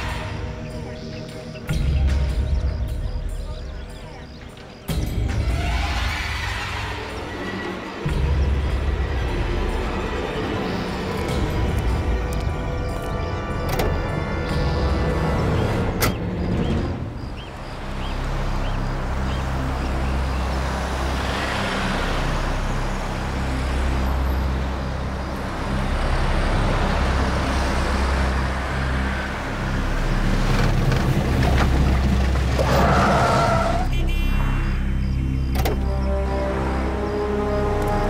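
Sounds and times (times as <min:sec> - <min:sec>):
tyres rolling on rough road: 0:00.0 - 0:34.0.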